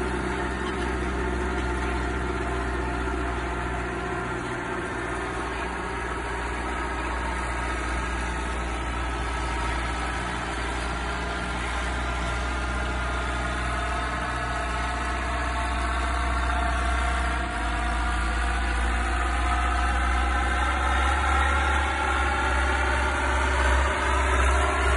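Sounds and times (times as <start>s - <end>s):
tractor diesel engine under load: 0.0s - 24.9s.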